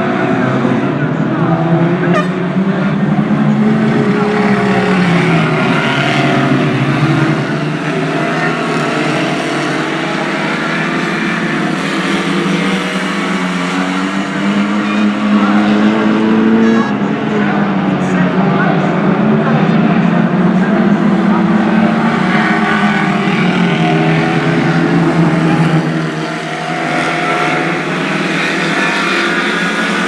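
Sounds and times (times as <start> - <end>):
racing car engines: 0.0 - 30.0.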